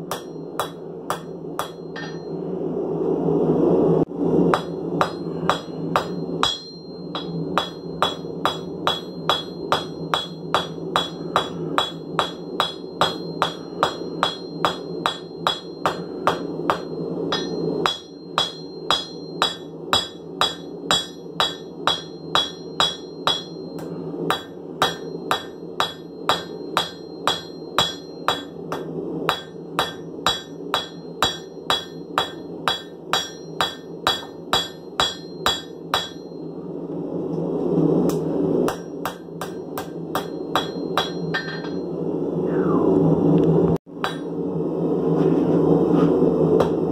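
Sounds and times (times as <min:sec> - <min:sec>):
hammer striking metal on anvil: 0:00.0 - 0:02.4, 0:04.5 - 0:36.5, 0:38.1 - 0:42.0, 0:44.0 - 0:44.4, 0:46.6 - 0:46.8.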